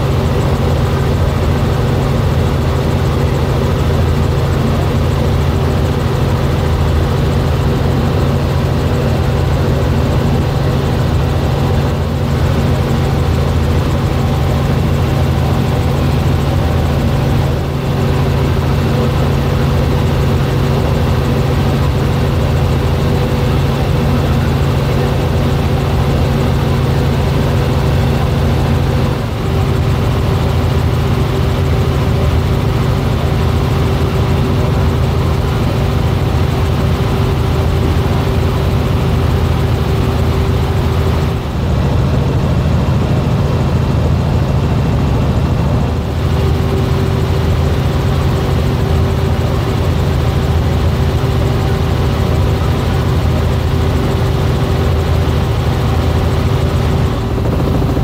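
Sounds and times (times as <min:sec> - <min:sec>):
helicopter engine and rotors drone: 0:00.0 - 0:58.0.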